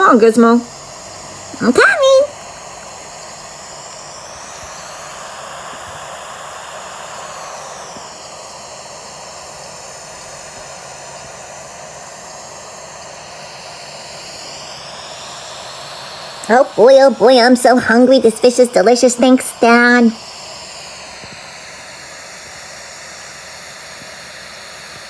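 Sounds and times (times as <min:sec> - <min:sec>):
high rushing hiss: 0:00.0 - 0:25.0.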